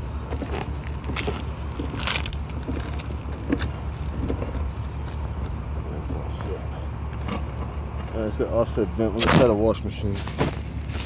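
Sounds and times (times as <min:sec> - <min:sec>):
low pulsing mechanical hum: 0:00.0 - 0:11.0.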